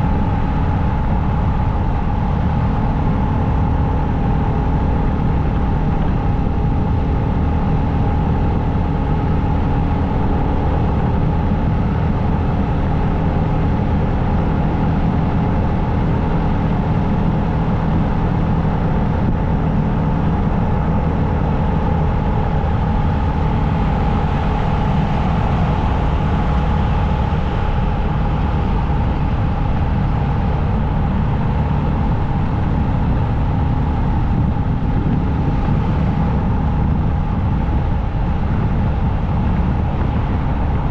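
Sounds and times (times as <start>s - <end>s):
motorcycle engine drone: 0.0s - 40.9s
rushing wind noise: 0.0s - 40.9s.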